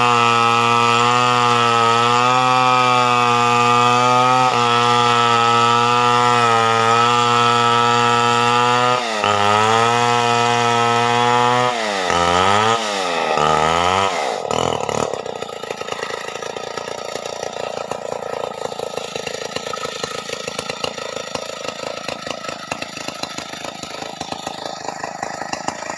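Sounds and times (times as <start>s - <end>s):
chainsaw revving and idling: 0.0s - 25.9s.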